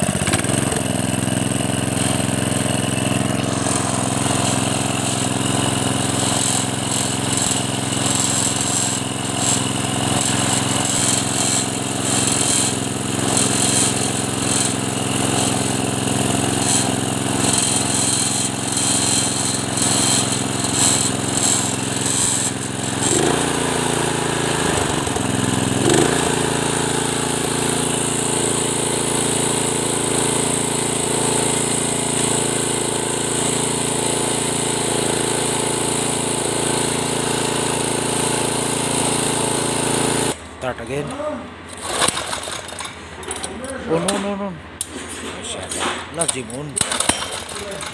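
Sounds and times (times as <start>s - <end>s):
small petrol engine running: 0.0s - 44.9s, 46.1s - 47.9s.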